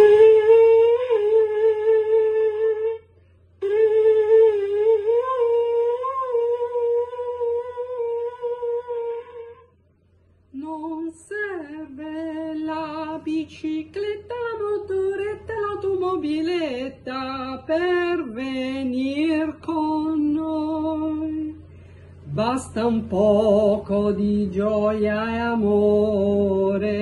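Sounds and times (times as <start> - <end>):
woman singing: 0.0 - 9.7, 10.5 - 27.0.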